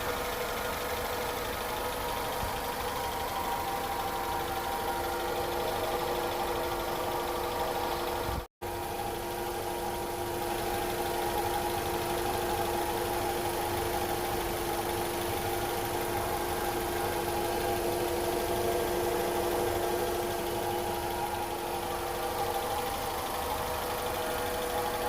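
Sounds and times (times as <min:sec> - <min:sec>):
car engine idling: 0:00.0 - 0:25.0
constant whining tones: 0:00.0 - 0:25.0.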